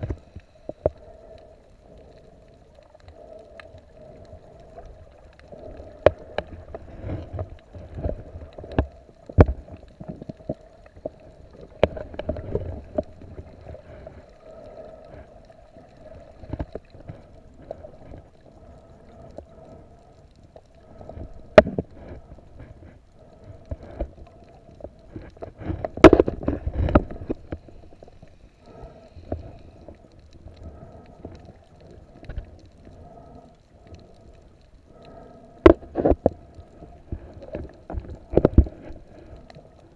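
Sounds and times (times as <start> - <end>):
muffled underwater hum: 0.0 - 39.9
rushing water: 0.0 - 39.9.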